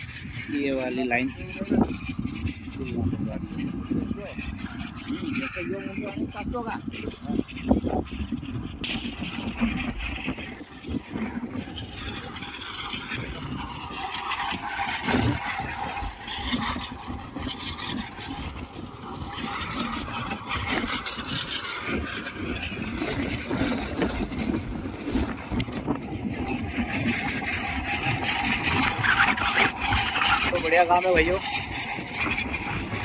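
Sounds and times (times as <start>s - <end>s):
tractor engine rumbling: 0.0s - 33.0s.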